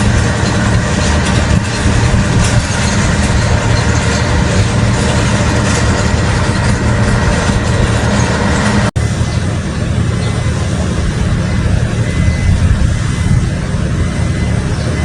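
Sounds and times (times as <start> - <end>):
diesel piling machinery drone: 0.0 - 15.0.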